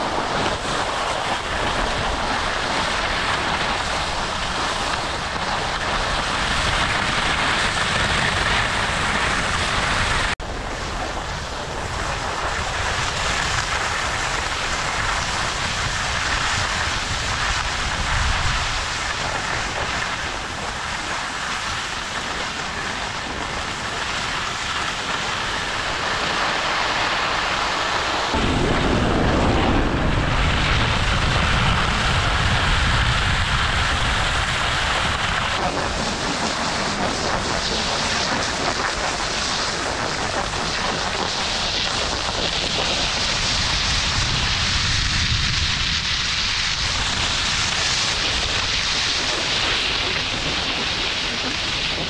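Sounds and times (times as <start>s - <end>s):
skis sliding on snow: 0.0s - 28.4s, 29.1s - 52.0s
wind rushing over microphone: 0.0s - 52.0s.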